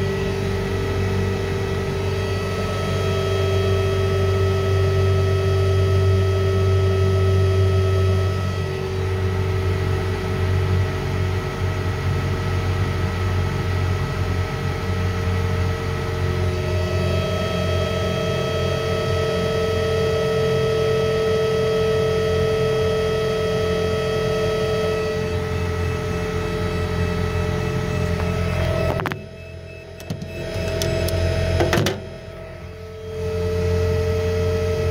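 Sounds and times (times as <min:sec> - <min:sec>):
electric motor humming and whining: 0:00.0 - 0:34.9.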